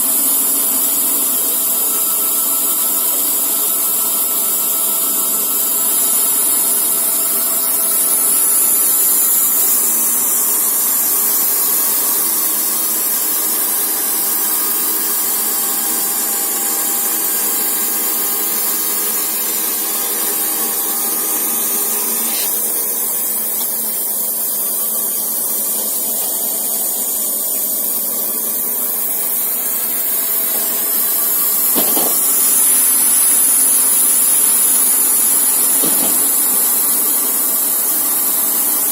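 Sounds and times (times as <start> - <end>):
band sawmill cutting wood: 0.0 - 38.9.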